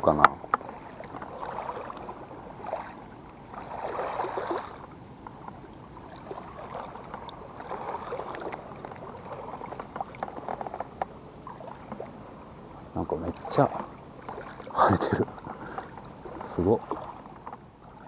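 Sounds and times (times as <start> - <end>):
lake water splashing: 0.0 - 18.0
small sharp splashes: 0.2 - 18.0.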